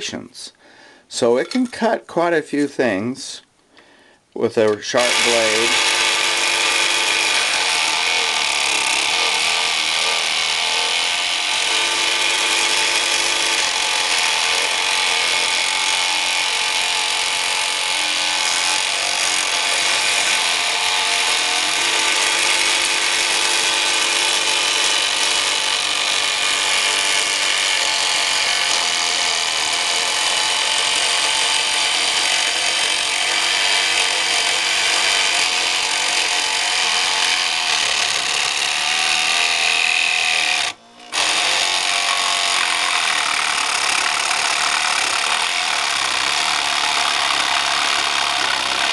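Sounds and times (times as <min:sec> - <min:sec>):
scroll saw cutting thin wood: 0:04.8 - 0:48.9.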